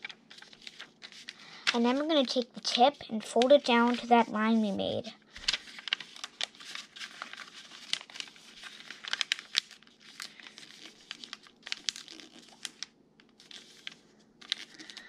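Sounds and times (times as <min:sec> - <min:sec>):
paper rustling as it is folded: 0:00.0 - 0:15.0.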